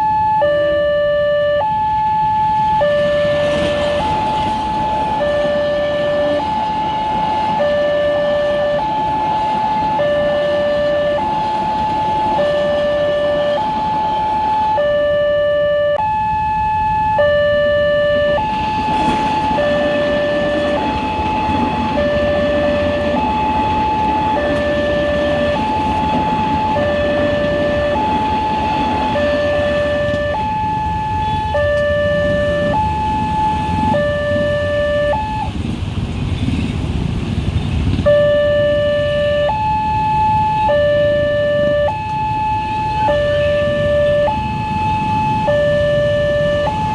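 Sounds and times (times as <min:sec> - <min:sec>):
two-tone warning siren: 0:00.0 - 0:35.6, 0:37.9 - 0:46.9
traffic rumble: 0:00.0 - 0:46.9.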